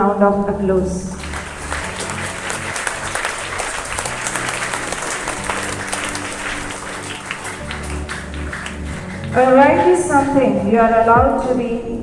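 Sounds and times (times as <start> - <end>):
background music: 0.0 - 12.0
crowd applauding: 0.8 - 12.0.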